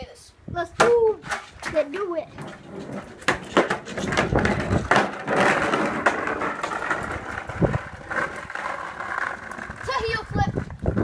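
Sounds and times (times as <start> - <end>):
skateboard clacking on ground: 0.8 - 11.0
skateboard wheels rolling: 1.2 - 11.0.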